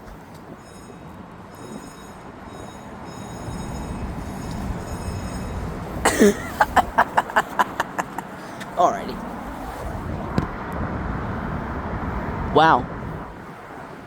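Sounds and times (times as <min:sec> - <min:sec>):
low rumble of vehicle noise: 0:00.0 - 0:14.0.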